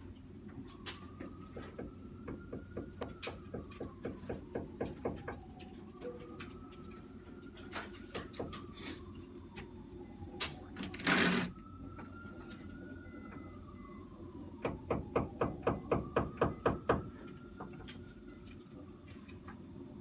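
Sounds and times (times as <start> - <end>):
faint siren wailing: 0.0 - 20.0.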